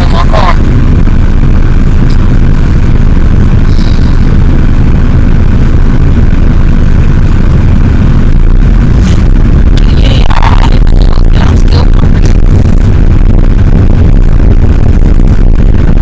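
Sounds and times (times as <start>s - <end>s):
car road noise rumble: 0.0s - 16.0s.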